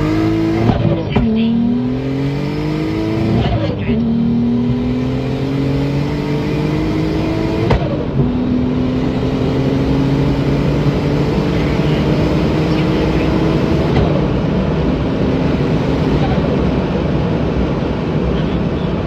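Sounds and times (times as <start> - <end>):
car engine at full throttle: 0.0 - 19.0
road and wind noise: 0.0 - 19.0.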